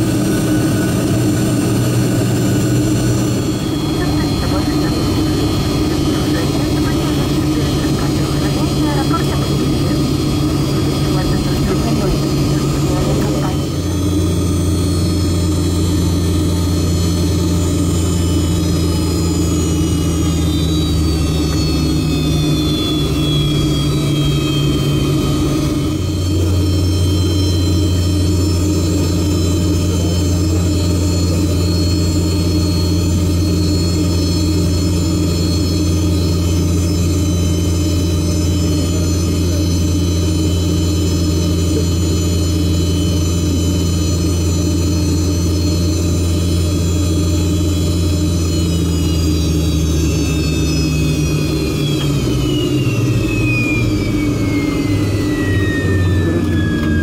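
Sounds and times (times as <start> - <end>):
jet engines whining: 0.0 - 57.0
low engine hum: 0.0 - 57.0.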